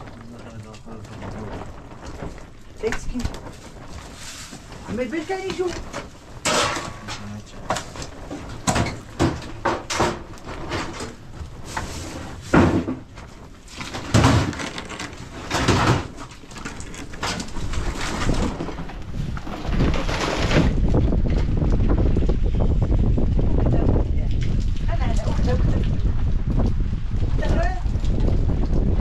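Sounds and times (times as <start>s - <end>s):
irregular knocks and thumps: 0.0s - 23.4s.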